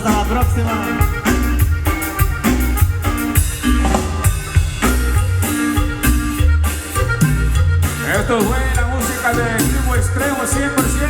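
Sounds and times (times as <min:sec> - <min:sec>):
band playing instrumental music: 0:00.0 - 0:11.0
drum kit beating: 0:00.0 - 0:11.0.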